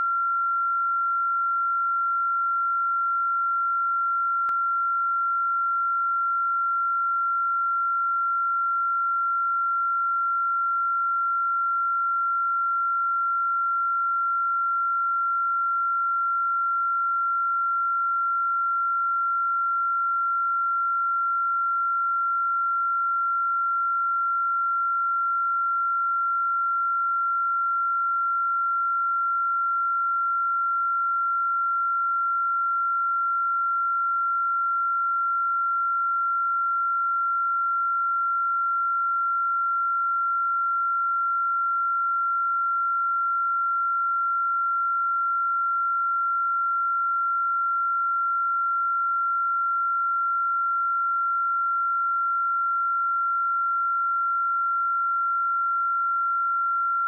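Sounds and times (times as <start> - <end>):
sine wave test tone: 0.0 - 57.0.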